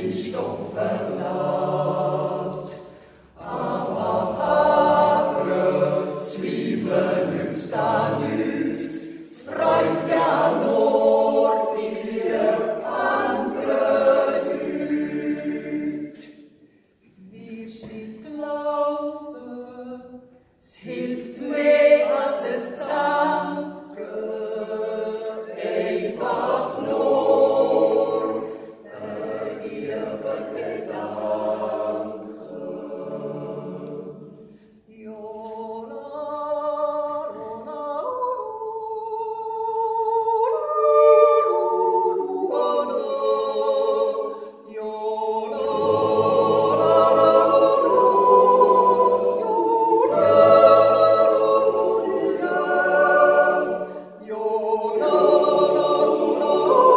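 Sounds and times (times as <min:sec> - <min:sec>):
choir yodeling a cappella: 0:00.0 - 0:56.9.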